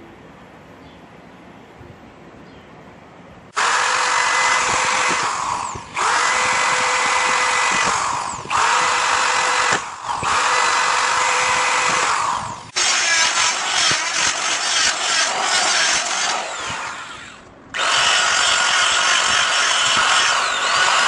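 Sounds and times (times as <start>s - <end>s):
drill boring into steel: 3.5s - 21.0s
rotary tool cutting: 3.5s - 21.0s.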